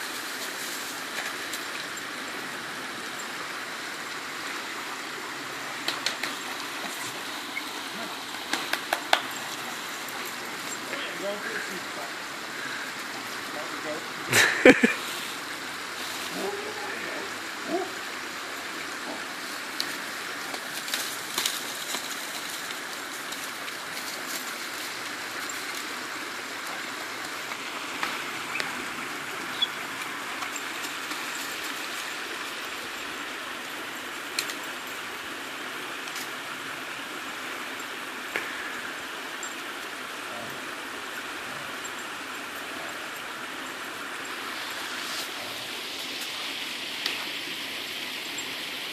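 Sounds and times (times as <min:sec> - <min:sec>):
creek running: 0:00.0 - 0:48.9.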